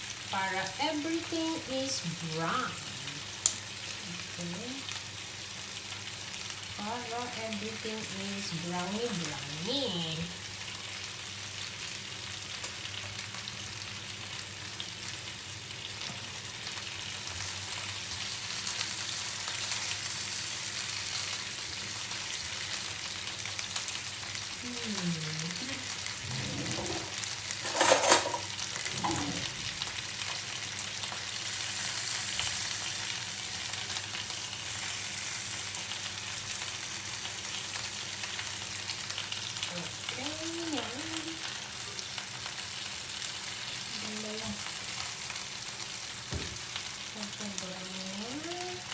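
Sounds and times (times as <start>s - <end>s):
chicken sizzling in fat: 0.0s - 48.9s.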